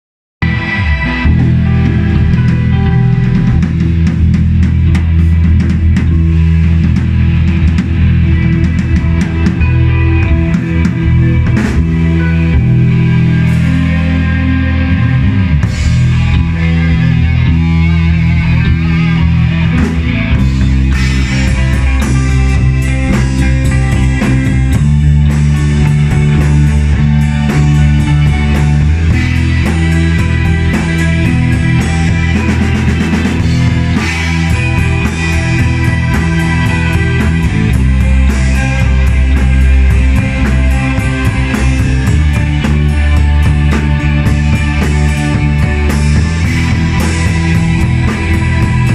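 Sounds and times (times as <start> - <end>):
drums and cymbals: 0.4 - 48.9
rock band playing live: 0.4 - 48.9.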